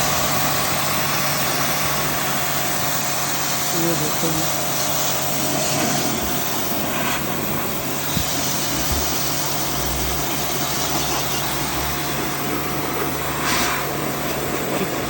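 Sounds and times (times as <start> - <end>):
pressure washer motor hum: 0.0 - 15.0
water jet spraying: 0.0 - 15.0.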